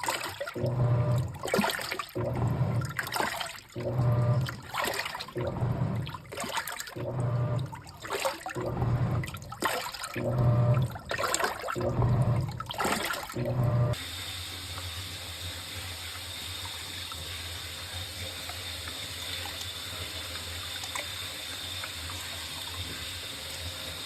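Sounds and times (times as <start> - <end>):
washing machine motor humming: 0.0 - 24.0
water sloshing in washing machine: 0.0 - 24.0.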